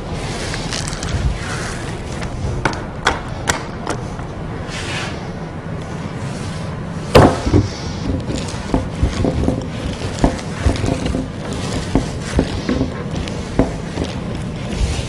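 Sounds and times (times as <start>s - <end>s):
paint roller rolling paste: 0.0s - 2.6s, 4.6s - 15.0s.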